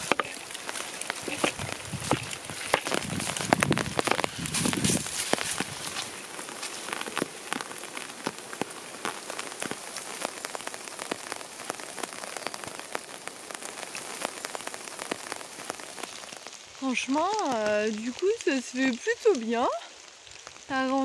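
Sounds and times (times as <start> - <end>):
rain drops pattering: 0.0 - 21.0.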